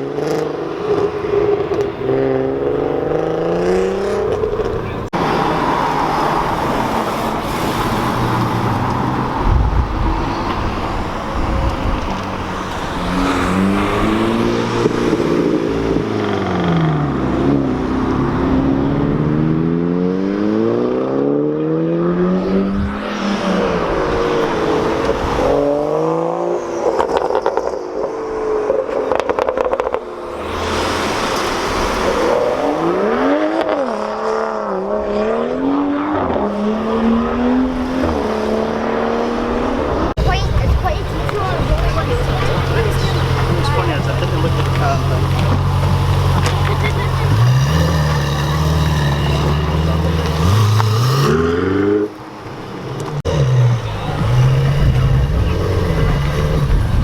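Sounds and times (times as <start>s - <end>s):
background noise: 0.0s - 57.0s
car engines revving: 0.0s - 57.0s.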